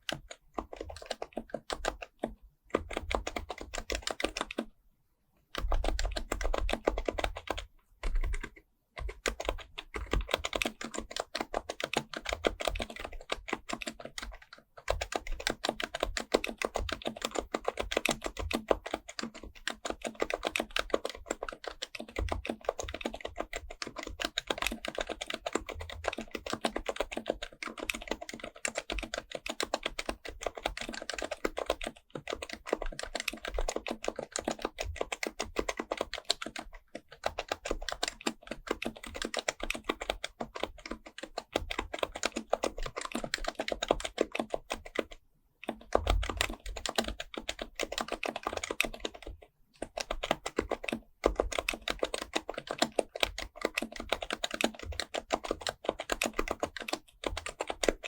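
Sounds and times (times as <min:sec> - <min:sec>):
fast keyboard typing: 0:00.0 - 0:04.7, 0:05.5 - 0:58.0.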